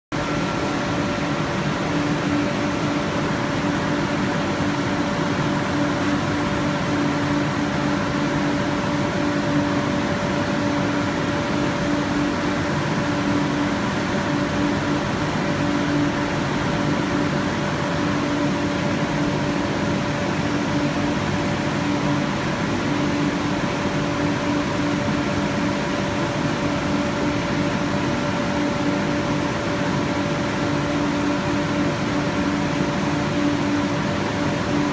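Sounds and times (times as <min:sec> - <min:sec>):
machine humming with steady tones: 0:00.2 - 0:34.9.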